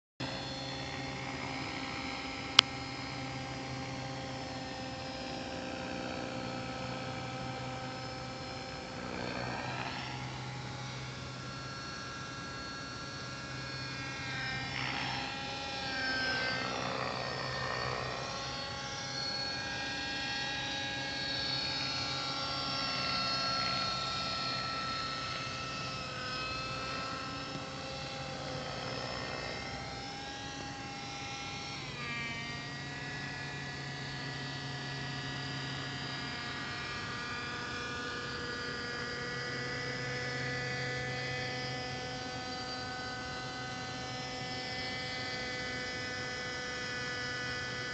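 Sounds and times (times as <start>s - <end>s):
model helicopter engine whine: 0.2s - 47.9s.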